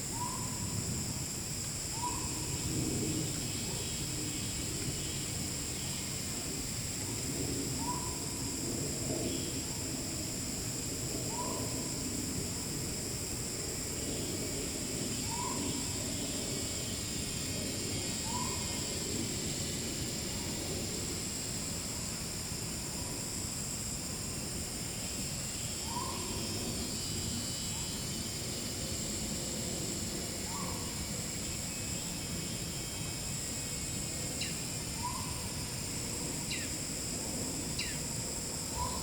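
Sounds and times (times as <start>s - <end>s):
high insect drone: 0.0s - 39.0s.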